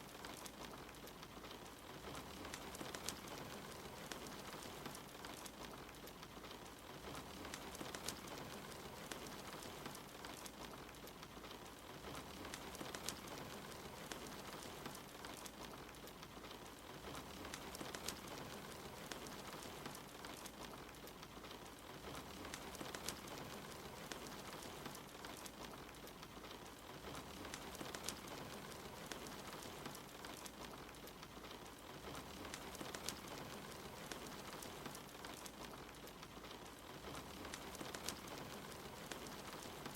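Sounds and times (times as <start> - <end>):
rain patter: 0.0 - 39.9
wood fire crackling: 0.0 - 39.9.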